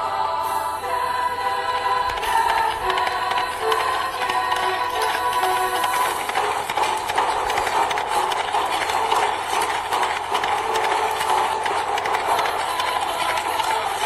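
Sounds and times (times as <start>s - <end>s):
music: 0.0s - 14.0s
horse hoofbeats galloping: 2.0s - 14.0s.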